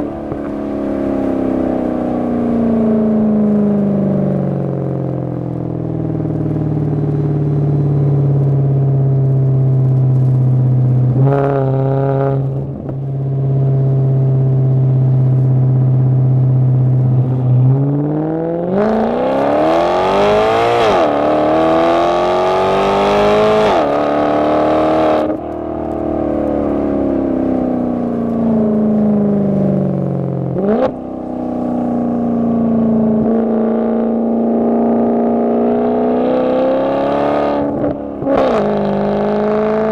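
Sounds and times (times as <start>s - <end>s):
car exhaust revving and accelerating: 0.0s - 39.9s.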